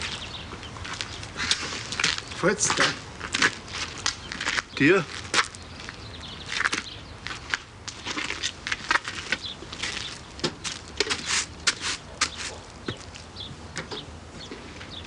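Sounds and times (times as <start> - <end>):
footsteps on gravel: 0.0 - 13.5.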